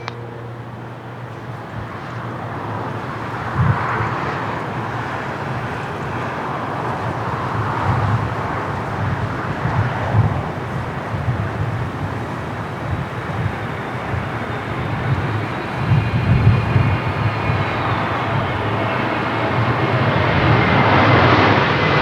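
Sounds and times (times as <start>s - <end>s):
jet engines roaring: 0.0s - 22.0s
wind buffeting microphone: 1.2s - 22.0s.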